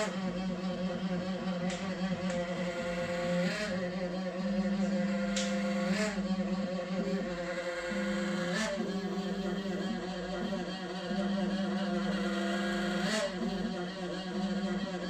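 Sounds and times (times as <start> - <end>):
fan humming drone: 0.0 - 15.0.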